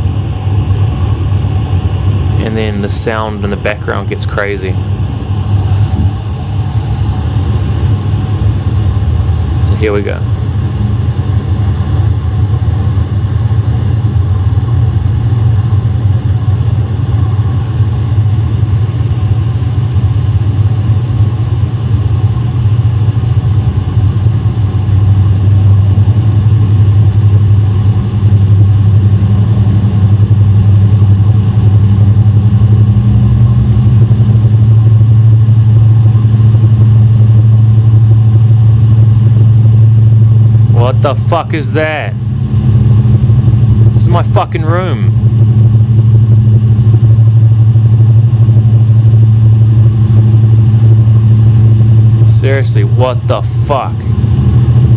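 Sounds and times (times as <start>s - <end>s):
low humming drone: 0.0s - 54.9s.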